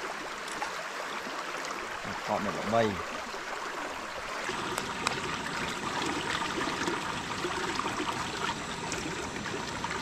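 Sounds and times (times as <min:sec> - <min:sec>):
water flowing: 0:00.0 - 0:10.0.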